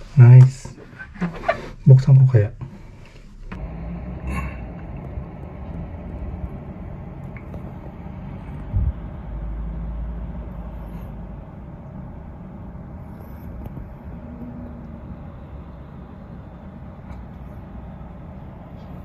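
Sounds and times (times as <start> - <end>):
traffic rumble: 0.0 - 19.0
heavy low rumble: 1.9 - 19.0.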